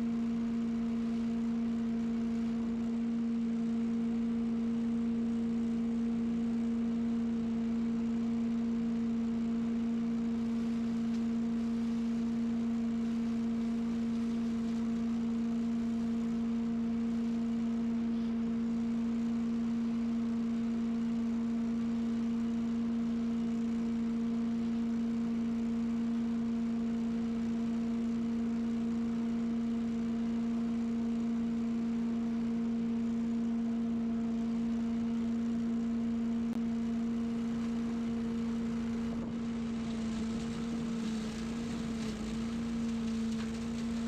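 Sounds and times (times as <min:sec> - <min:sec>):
small gas engine running: 0:00.0 - 0:44.0.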